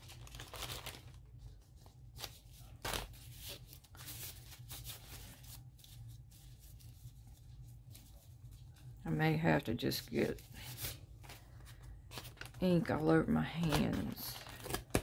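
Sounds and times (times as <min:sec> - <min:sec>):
gloved hands rustling paper: 0:00.0 - 0:15.0.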